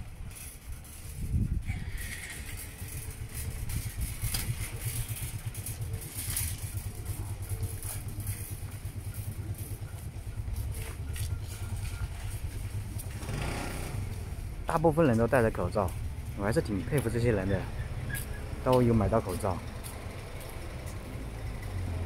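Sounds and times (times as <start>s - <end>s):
motorcycle engine low throb: 0.0s - 22.0s.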